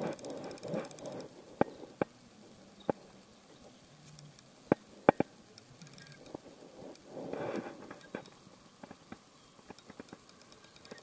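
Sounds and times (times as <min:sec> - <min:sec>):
small clicks and ticks: 0:00.0 - 0:11.0
soft rustle: 0:00.0 - 0:11.0.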